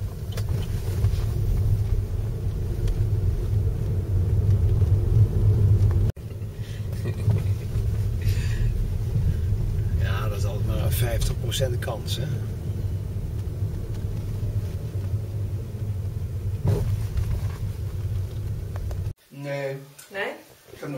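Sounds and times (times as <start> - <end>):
car engine and road noise: 0.0 - 19.2.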